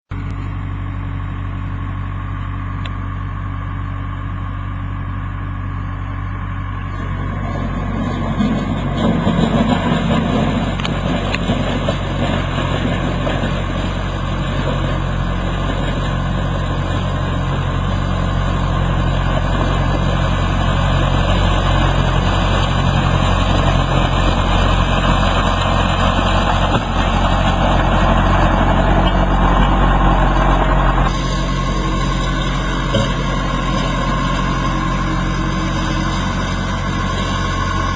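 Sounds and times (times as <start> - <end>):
skid steer engine running: 0.1 - 37.9.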